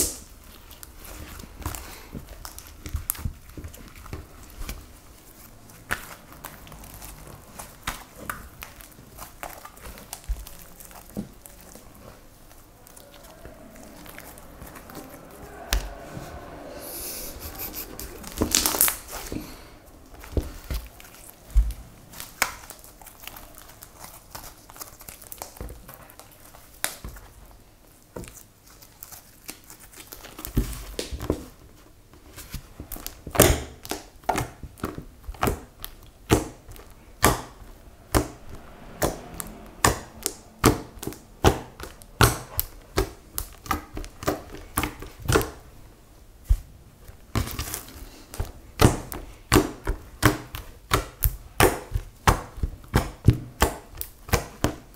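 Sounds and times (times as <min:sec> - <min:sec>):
slime squelching: 0:00.0 - 0:54.9.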